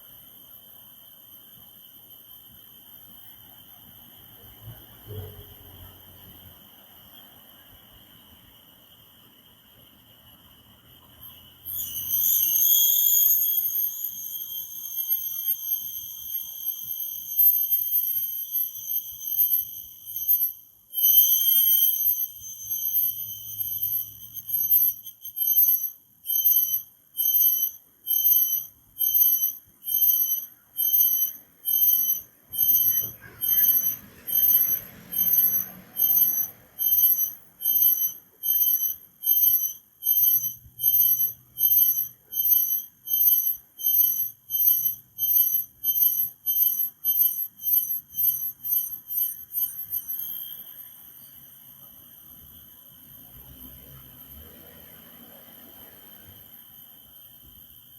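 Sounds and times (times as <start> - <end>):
cricket chirping: 0.0 - 57.9.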